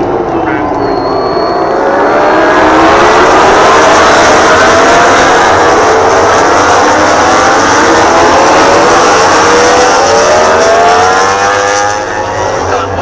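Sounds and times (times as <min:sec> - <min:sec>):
racing motorcycles accelerating: 0:00.0 - 0:13.0.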